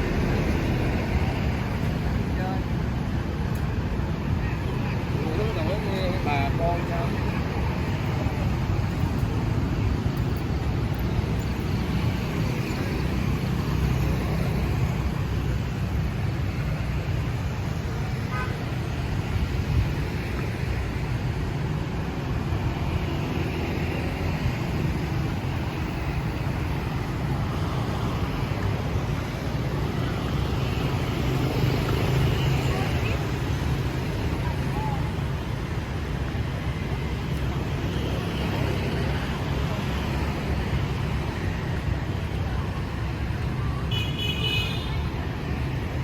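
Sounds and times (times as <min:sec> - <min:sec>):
street traffic hum: 0:00.0 - 0:46.0.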